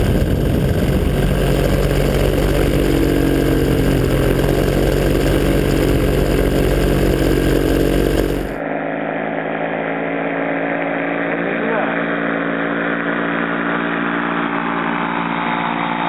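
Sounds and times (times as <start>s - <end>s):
paramotor engine running: 0.0s - 16.0s.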